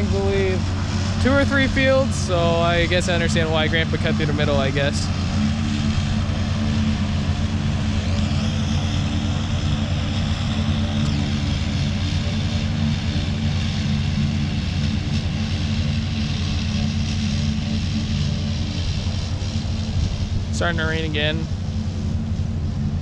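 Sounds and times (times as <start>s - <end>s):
farm vehicle engine droning: 0.0s - 23.0s.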